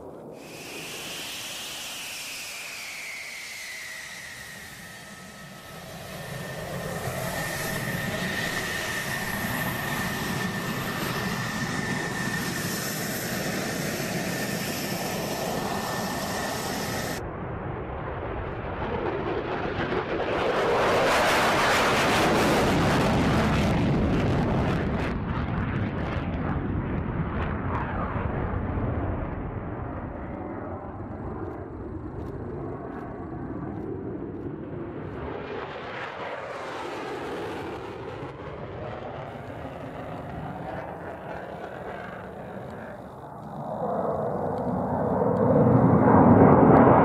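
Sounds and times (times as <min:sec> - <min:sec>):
jet fighter taking off: 0:00.0 - 0:47.0.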